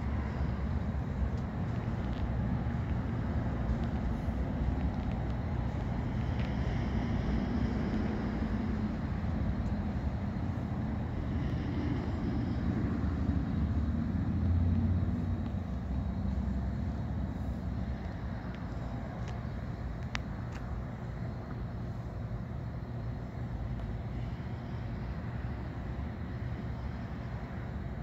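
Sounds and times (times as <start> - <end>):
low rumble of motor vehicles: 0.0 - 28.0.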